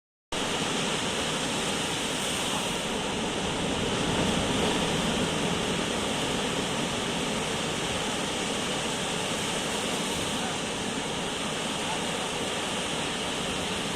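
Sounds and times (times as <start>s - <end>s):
sea waves breaking: 0.4s - 13.9s.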